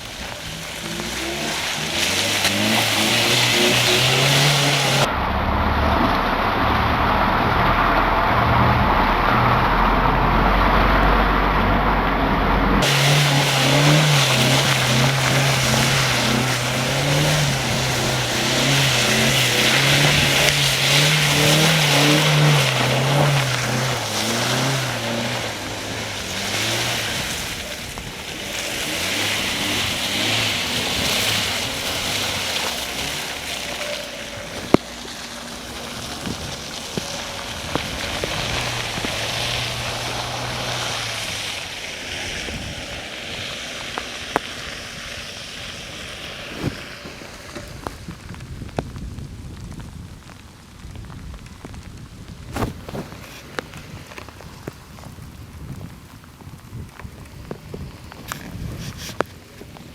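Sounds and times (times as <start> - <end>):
car engine working hard: 0.0 - 48.5
tyres rushing through mud: 0.0 - 59.9.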